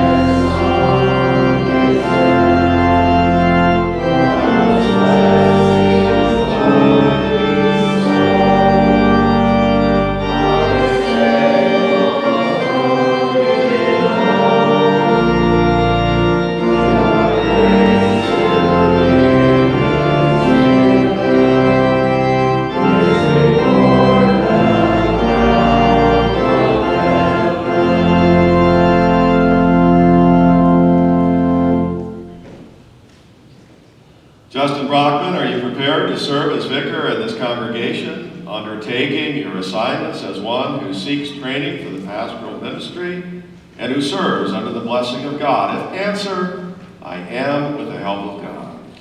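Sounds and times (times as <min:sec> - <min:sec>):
church organ playing chords: 0:00.0 - 0:32.9, 0:34.5 - 0:49.0.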